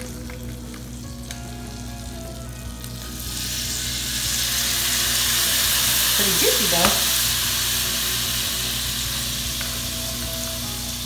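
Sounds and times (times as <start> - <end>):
butter sizzling in a pan: 0.0 - 11.0.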